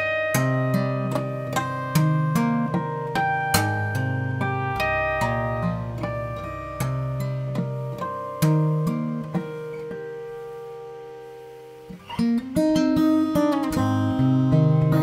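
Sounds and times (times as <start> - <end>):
fingerstyle acoustic guitar: 0.0 - 15.0.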